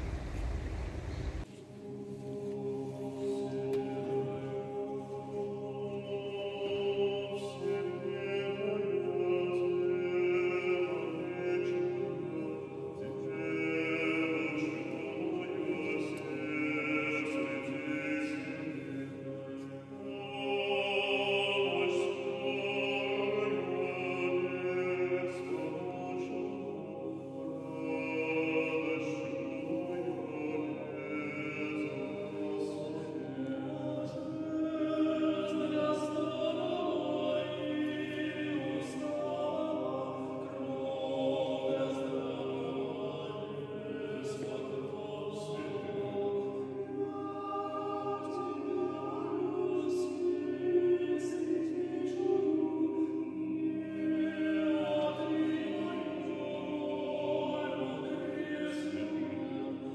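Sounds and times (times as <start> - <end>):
choir singing held chords: 0.0 - 59.9.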